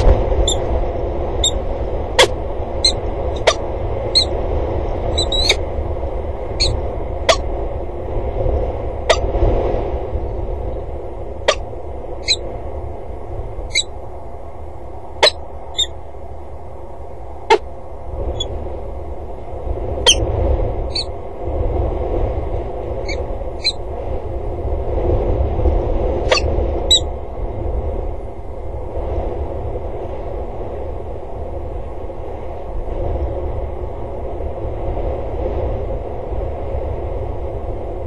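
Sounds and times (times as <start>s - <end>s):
wind rumbling on microphone: 0.0s - 38.0s.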